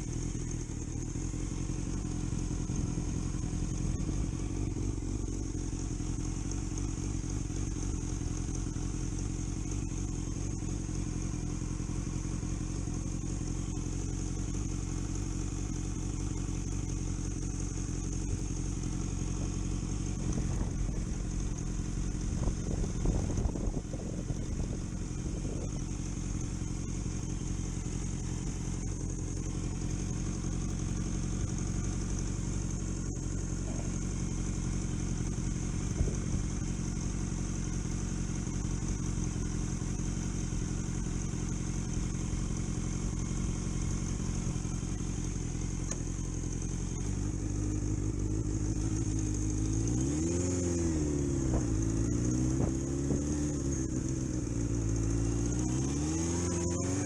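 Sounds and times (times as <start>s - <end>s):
clatter: 0.0s - 57.0s
vehicle engine running: 0.0s - 57.0s.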